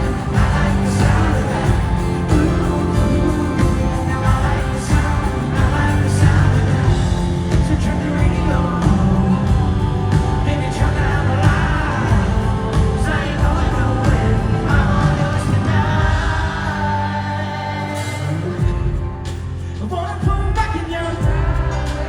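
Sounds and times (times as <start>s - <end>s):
pop-country song with singer and band: 0.0s - 22.0s.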